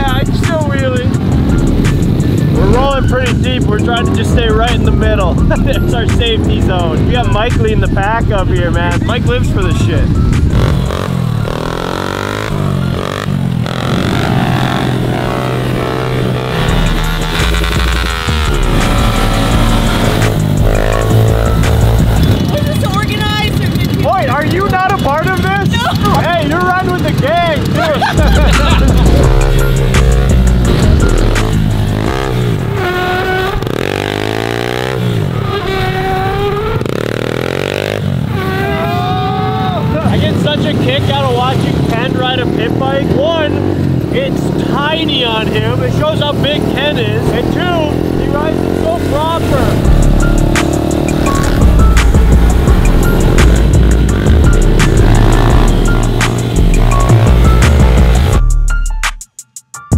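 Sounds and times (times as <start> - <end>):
small motorbike engines revving: 0.0 - 58.5.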